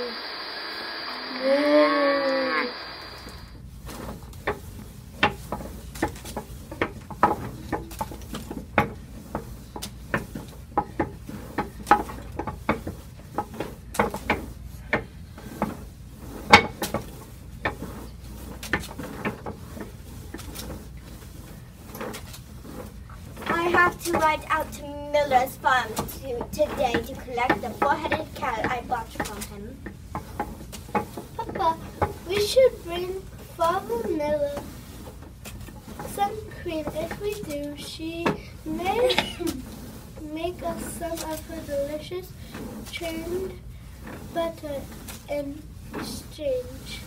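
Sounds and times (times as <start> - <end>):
clothes scrubbed on washboard: 0.0 - 47.0
butter churn dasher knocking: 3.0 - 47.0.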